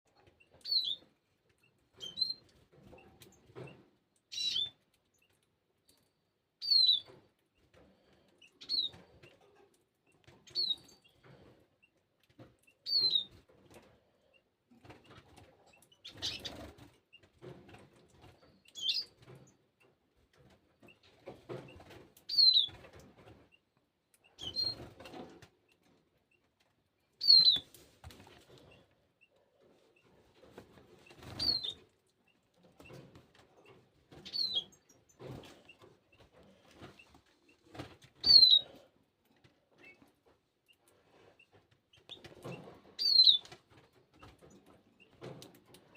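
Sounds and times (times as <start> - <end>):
birds rustling while feeding: 0.1 - 23.6, 24.2 - 45.9.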